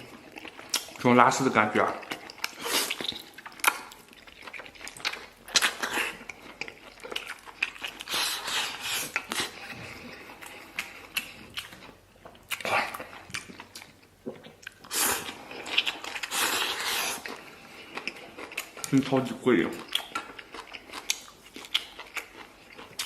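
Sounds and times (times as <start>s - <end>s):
person chewing wetly: 0.0s - 23.0s.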